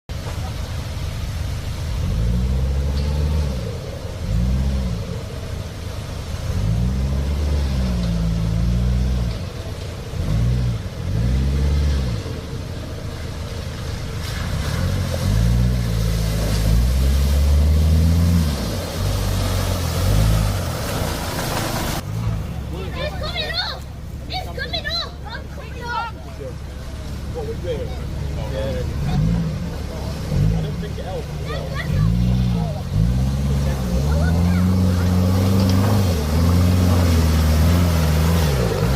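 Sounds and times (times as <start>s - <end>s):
pickup truck engine revving: 1.9s - 23.4s, 25.8s - 38.9s.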